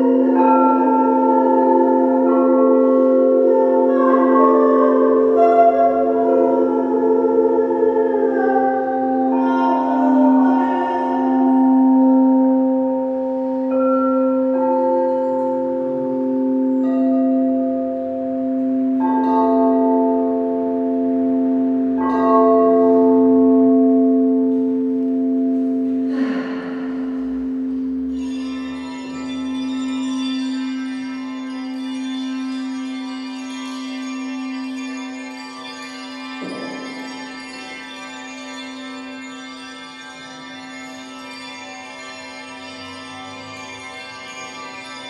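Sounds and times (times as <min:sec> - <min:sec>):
higher singing bowls struck: 0:00.0 - 0:39.6
low singing bowl tone: 0:00.0 - 0:45.0.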